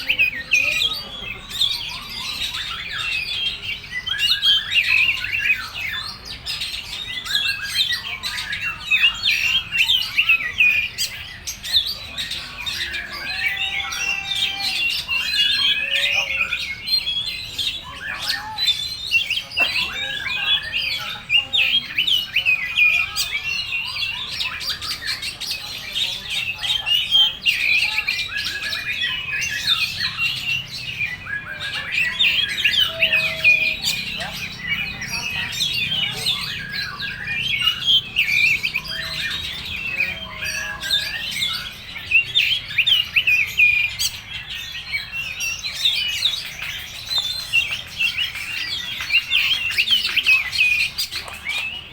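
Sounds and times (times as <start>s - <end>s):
songbird singing rapid song: 0.0s - 51.9s.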